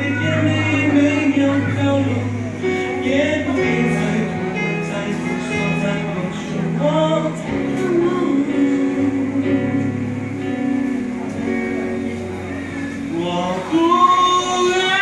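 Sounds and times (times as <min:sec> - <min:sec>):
man singing a slow pop song: 0:00.0 - 0:10.4, 0:12.9 - 0:15.0
karaoke backing track: 0:00.0 - 0:15.0.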